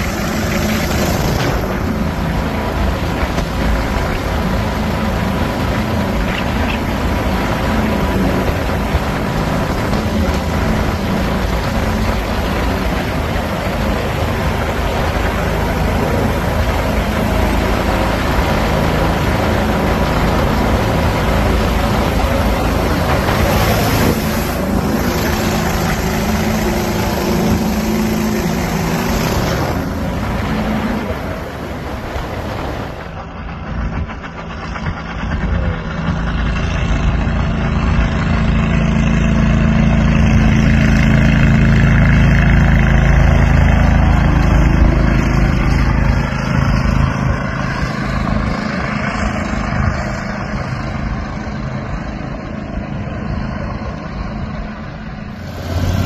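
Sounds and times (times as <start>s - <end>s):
boat motor passing by: 0.0s - 56.0s
boat motor running at speed: 0.0s - 56.0s
steady rushing noise: 0.0s - 56.0s.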